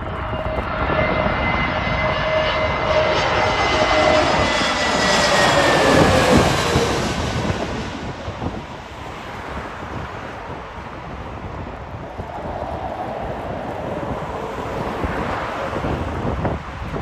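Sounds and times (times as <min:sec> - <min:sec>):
jet airliner engine rumble: 0:00.0 - 0:17.0
wind buffeting microphone: 0:00.0 - 0:17.0.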